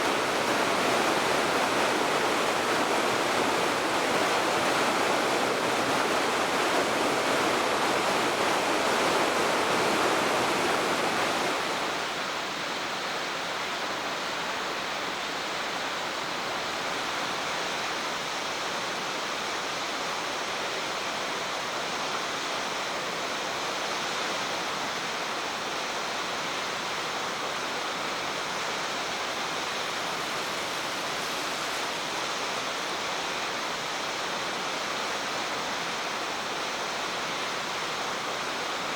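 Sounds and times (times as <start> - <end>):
waterfall rushing: 0.0 - 18.2, 20.8 - 38.9.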